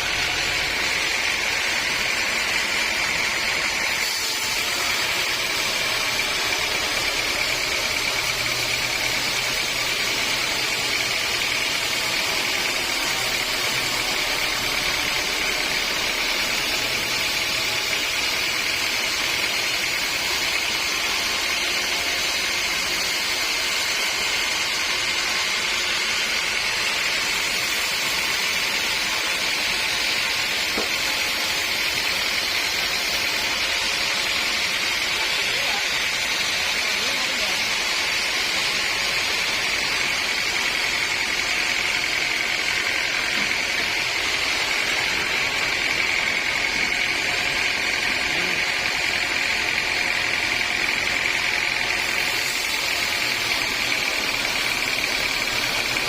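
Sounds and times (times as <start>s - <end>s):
sawmill saw whining: 0.0s - 56.0s.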